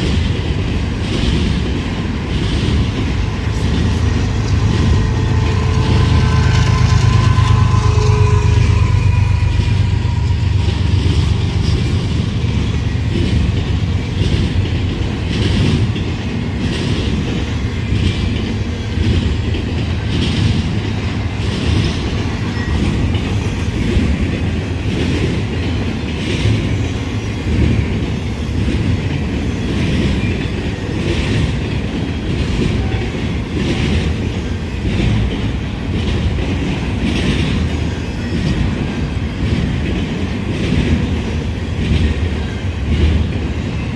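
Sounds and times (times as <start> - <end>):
freight train rumbling past: 0.0 - 43.9
train wheels clacking: 0.0 - 43.9.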